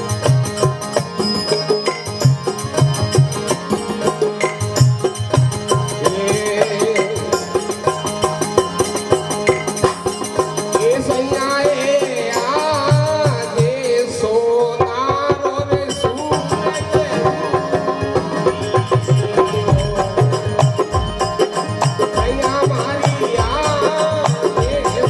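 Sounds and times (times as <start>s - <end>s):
dholak drum beat: 0.0s - 25.0s.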